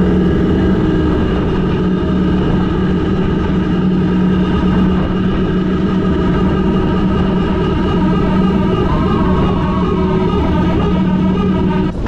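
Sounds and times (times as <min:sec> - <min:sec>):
speedboat engine drone: 0:00.0 - 0:12.0.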